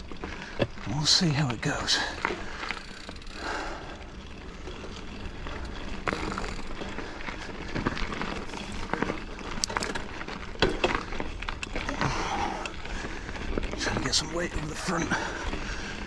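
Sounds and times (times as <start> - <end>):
bike knocks and rattles: 0.0 - 16.0
bike tyres rolling on dirt: 0.0 - 16.0.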